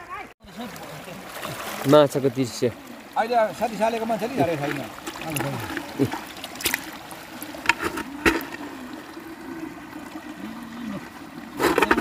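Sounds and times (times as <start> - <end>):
fish and water sloshing in a bucket: 0.4 - 12.0
sharp splashes: 0.4 - 12.0.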